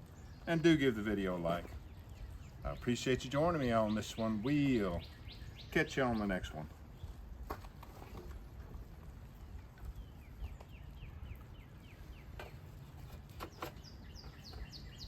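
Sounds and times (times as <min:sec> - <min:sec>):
low outdoor rumble: 0:00.0 - 0:15.0
songbird singing: 0:00.0 - 0:15.0.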